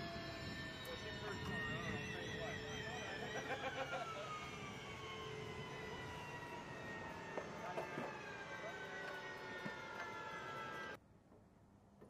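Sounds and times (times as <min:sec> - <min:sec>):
jet turbine winding down: 0:00.0 - 0:11.0.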